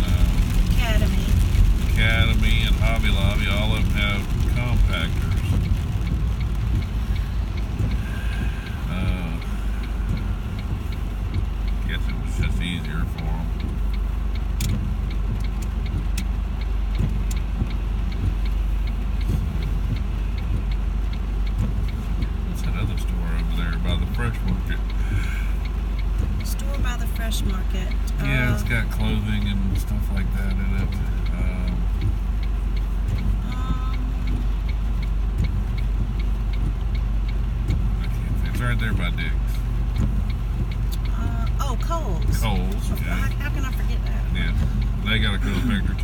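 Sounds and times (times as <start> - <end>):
light regular ticking: 0.0 - 46.0
road and engine rumble: 0.0 - 46.0.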